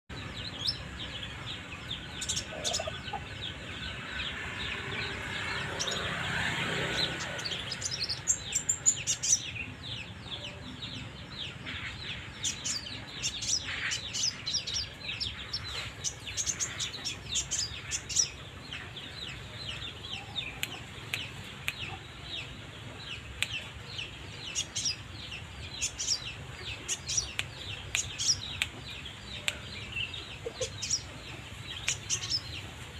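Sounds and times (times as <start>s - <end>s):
songbird chirping and trilling: 0.1s - 32.9s.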